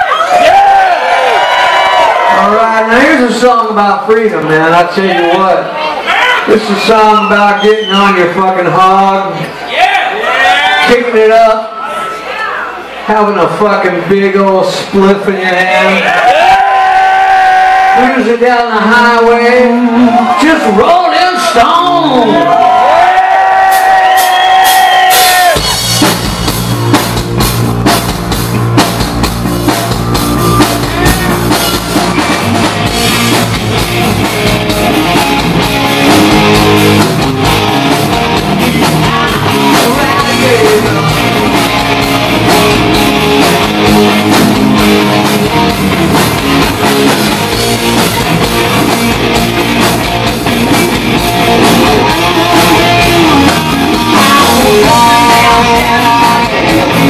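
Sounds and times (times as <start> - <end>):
rock band playing live: 0.0 - 10.2, 10.8 - 57.0.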